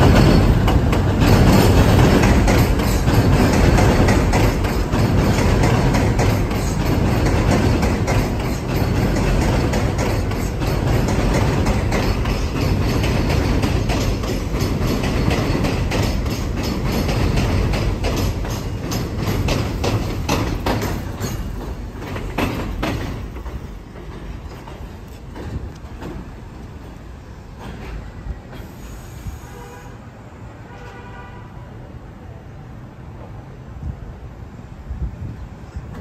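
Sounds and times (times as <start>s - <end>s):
wheels clicking over rail joints: 0.0s - 28.8s
train rumbling on elevated track: 0.0s - 36.0s.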